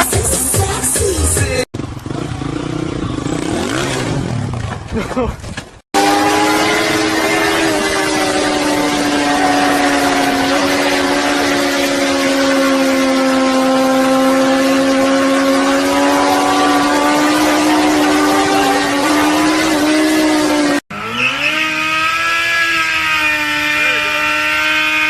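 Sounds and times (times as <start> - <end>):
engine at high revs: 1.7 - 4.8, 5.9 - 25.0.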